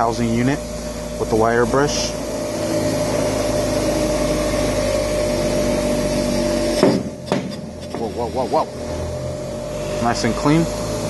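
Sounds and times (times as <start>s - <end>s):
bench grinder humming: 0.0s - 11.0s.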